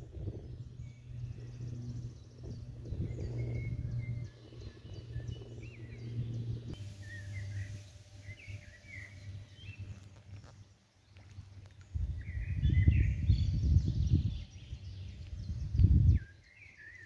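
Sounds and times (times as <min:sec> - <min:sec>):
steady low rumble: 0:00.0 - 0:16.3
songbirds chirping and singing: 0:00.0 - 0:17.0.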